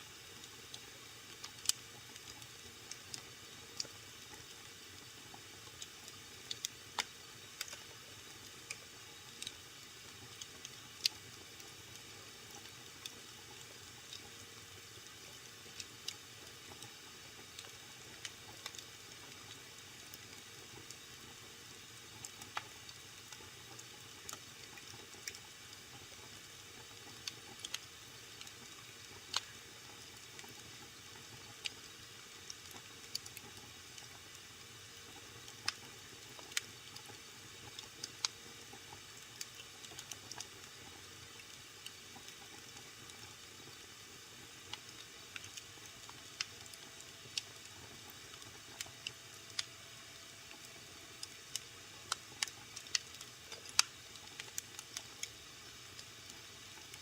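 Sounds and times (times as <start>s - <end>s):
wood fire crackling: 0.4s - 14.4s, 15.0s - 34.4s, 35.1s - 57.0s.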